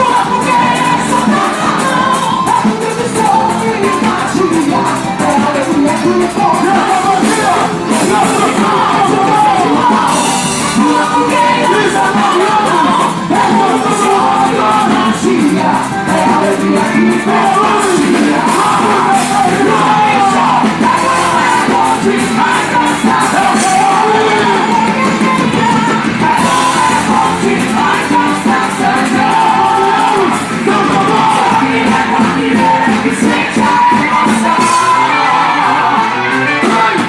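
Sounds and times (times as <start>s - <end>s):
loud music with singing: 0.0s - 37.0s
percussion beat: 0.0s - 37.0s.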